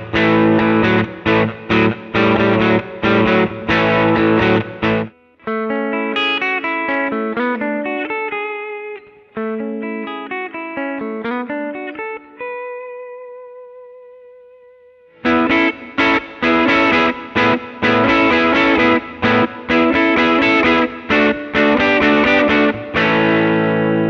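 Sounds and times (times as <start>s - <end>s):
distorted electric guitar riff: 0.0s - 10.7s, 11.4s - 24.0s
electric guitar lead line: 0.0s - 24.0s.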